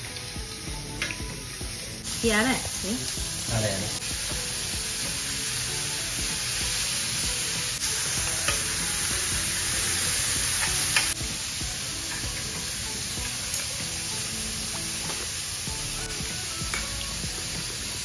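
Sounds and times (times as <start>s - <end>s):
food sizzling in stone bowl: 0.0s - 18.0s.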